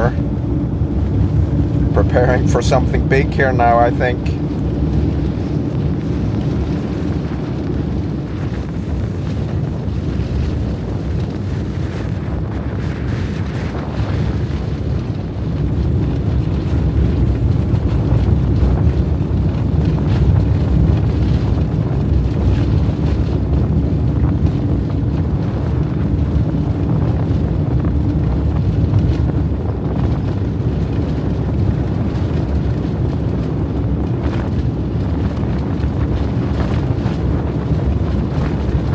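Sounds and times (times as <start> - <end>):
van engine rumbling: 0.0 - 38.9
wind buffeting and hissing: 0.0 - 38.9.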